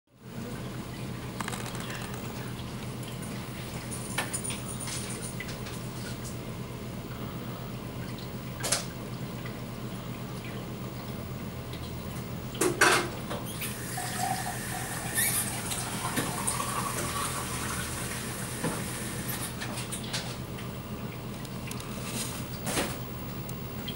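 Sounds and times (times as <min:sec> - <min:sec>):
water trickling into tank: 0:00.2 - 0:22.6.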